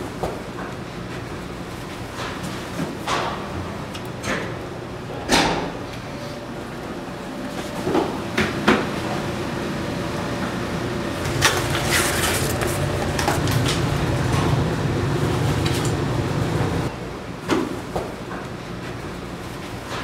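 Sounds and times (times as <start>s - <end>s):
steady low hum: 0.0s - 19.5s.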